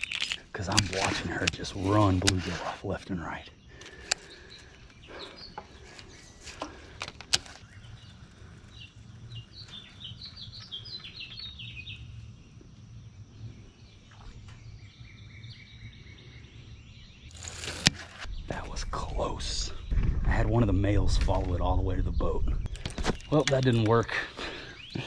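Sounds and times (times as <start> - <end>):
bird chirping: 0.0 - 25.0.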